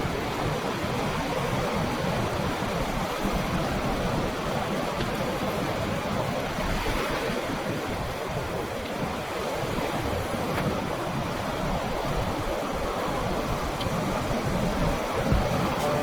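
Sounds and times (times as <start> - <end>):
waves washing over rocks: 0.0 - 16.0
wind buffeting microphone: 0.0 - 16.0.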